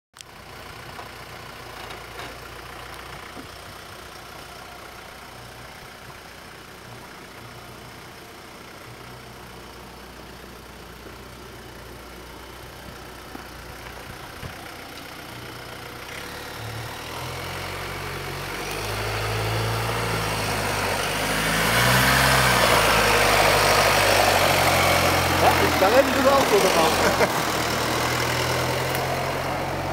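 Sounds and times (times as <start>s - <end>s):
vehicle engine at low revs: 0.2s - 29.9s.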